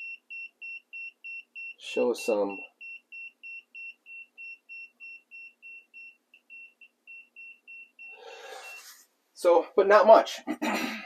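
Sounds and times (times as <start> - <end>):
meter beeping: 0.0 - 8.9.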